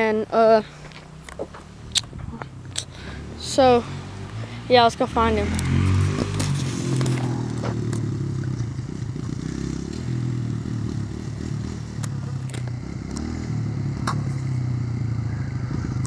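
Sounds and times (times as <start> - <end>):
dirt bike engine at low revs: 0.0 - 16.0.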